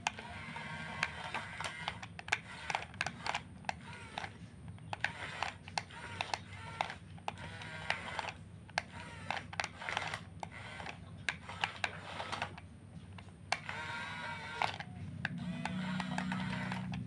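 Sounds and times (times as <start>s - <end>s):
sharp clicks: 0.0s - 17.0s
small electric motors whining: 0.0s - 17.0s
steady low hum: 0.0s - 17.0s.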